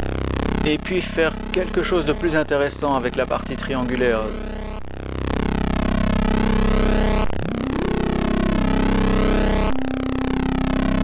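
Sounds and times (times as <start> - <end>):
buzzy synthesizer drone: 0.0 - 11.0.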